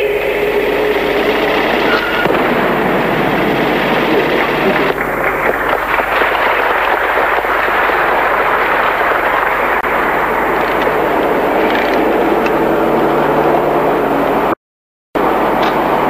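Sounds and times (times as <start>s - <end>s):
loud rushing background noise: 0.0s - 14.6s
low hum: 0.0s - 14.6s.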